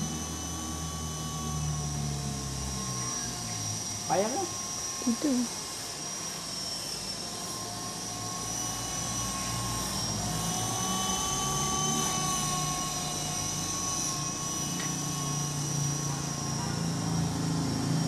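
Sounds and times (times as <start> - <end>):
toy helicopter rotor whine: 0.0 - 18.0.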